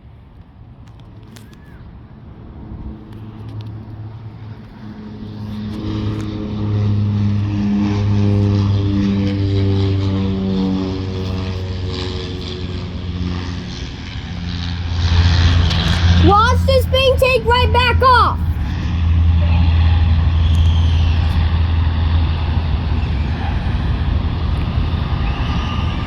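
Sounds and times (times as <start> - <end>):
propeller airplane drone: 0.1 - 26.0.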